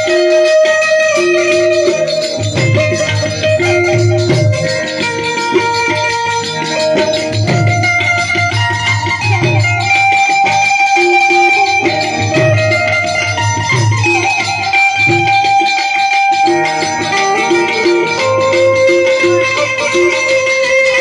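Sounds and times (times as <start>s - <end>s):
harmonium: 0.0s - 21.0s
keyboard melody: 0.0s - 21.0s
tabla beat: 0.0s - 21.0s.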